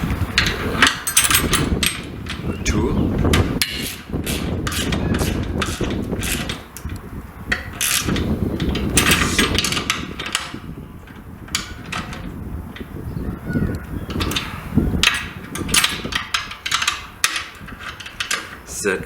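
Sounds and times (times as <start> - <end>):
tools clicking and clanking: 0.0 - 13.0, 13.8 - 18.9
handling rumble: 0.0 - 19.0.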